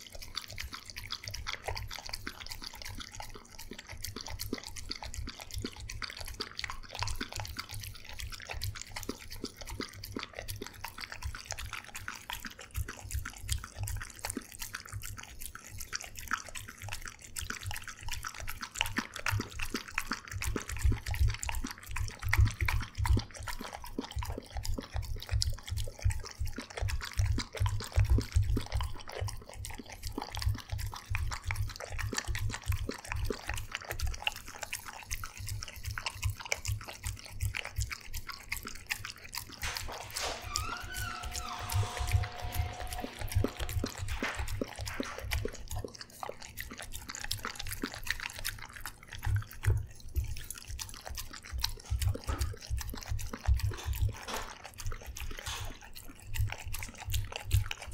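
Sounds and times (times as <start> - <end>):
tongue clicking against metal bowl: 0.0 - 50.0, 50.7 - 57.9
dog lapping and slurping food: 0.0 - 57.9.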